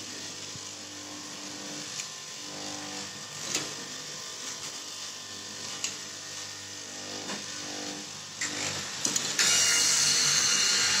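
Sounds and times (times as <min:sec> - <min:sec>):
cloth cutting machine motor hum: 0:00.0 - 0:11.0.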